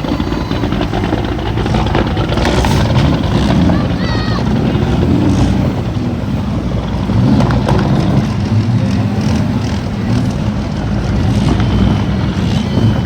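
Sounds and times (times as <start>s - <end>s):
truck diesel engines running: 0.0s - 13.0s.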